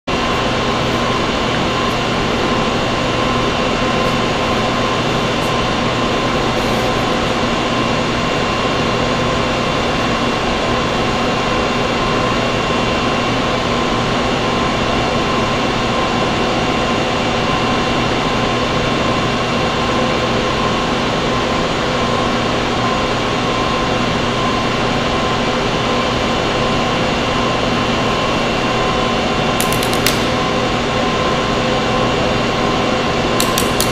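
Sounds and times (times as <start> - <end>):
low electrical hum: 0.1 - 33.9.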